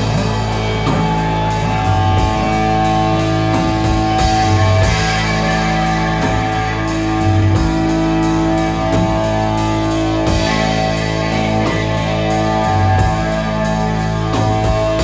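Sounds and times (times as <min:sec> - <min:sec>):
psychedelic rock band playing: 0:00.0 - 0:15.0.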